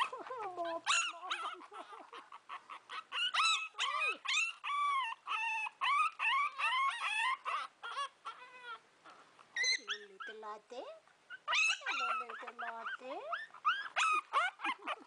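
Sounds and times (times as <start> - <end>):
puppies whining and yipping: 0.0 - 10.4, 11.2 - 15.0.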